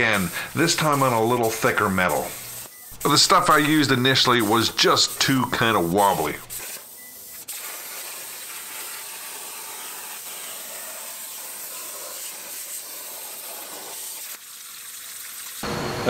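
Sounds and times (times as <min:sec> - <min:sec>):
plasma cutter hissing: 0:00.0 - 0:14.4.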